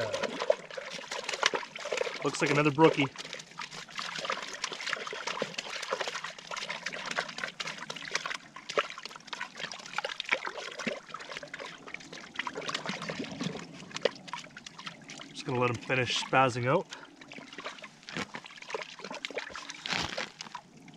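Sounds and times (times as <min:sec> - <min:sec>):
fish splashing in water: 0:00.0 - 0:20.9.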